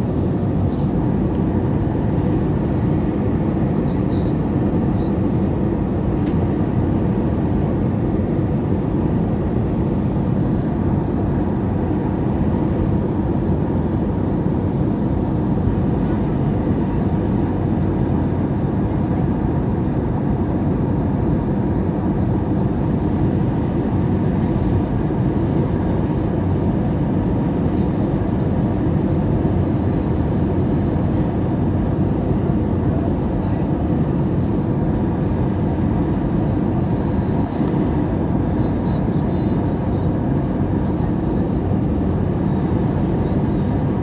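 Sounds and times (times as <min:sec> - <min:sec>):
airplane engine and airflow noise: 0:00.0 - 0:44.0.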